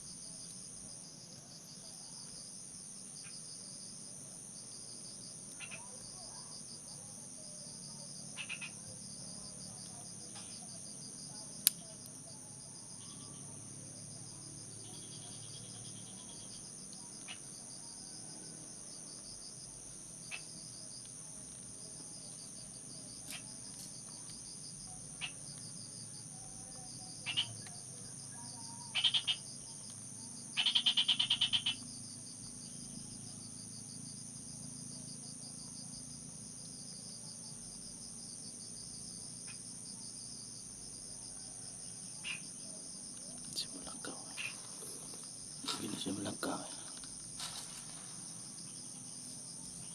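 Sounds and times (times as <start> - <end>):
crickets and insects chirping: 0.0 - 49.9
rapidly pulsed insect calls: 0.0 - 49.9.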